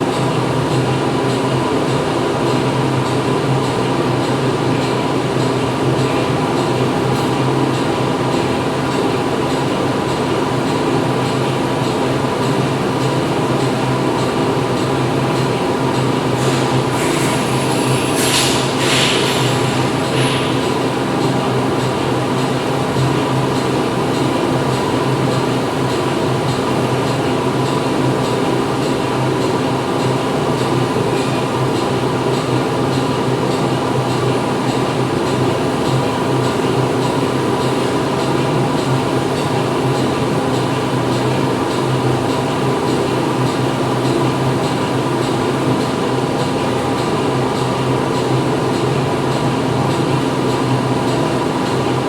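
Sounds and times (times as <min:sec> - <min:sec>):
factory machinery drone: 0:00.0 - 0:52.0.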